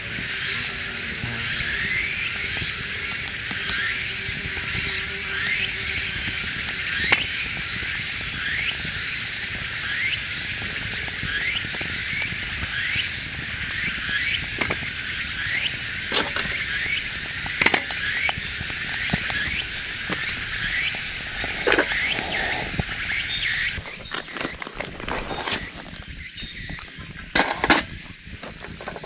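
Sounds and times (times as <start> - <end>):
cicadas singing: 0.0 - 29.0.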